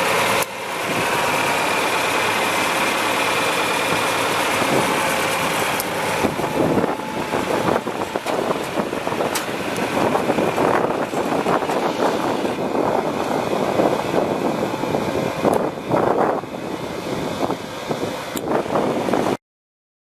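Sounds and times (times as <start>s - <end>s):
tractor engine running: 0.0s - 19.4s.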